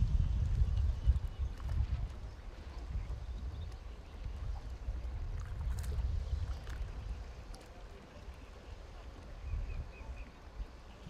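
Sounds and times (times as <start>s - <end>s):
small waves lapping: 0.0s - 11.0s
wind rumbling on microphone: 0.0s - 11.0s.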